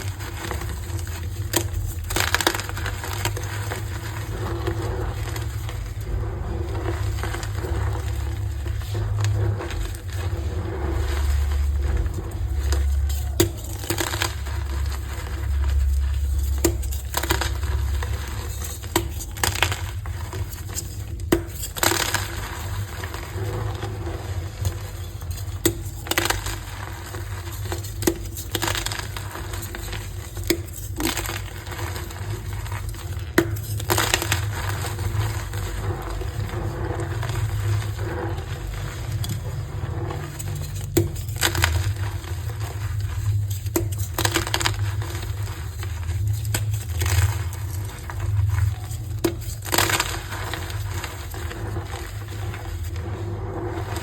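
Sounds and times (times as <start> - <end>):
chalk crunching by hand: 0.0 - 54.0.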